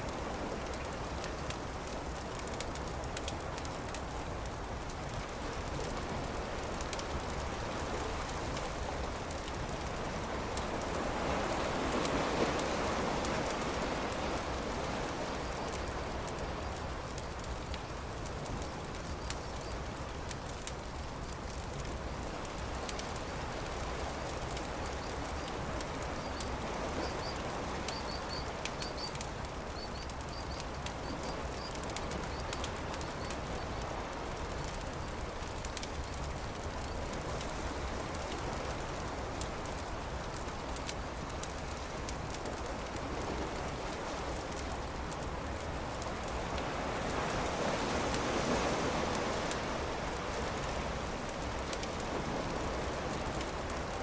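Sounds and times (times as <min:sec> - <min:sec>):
surf washing: 0:00.0 - 0:54.0
campfire crackling and popping: 0:00.1 - 0:54.0.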